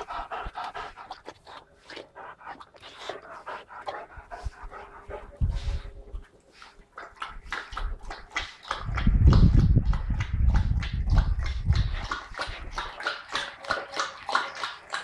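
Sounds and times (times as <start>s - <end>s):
puppy panting: 0.0s - 15.0s.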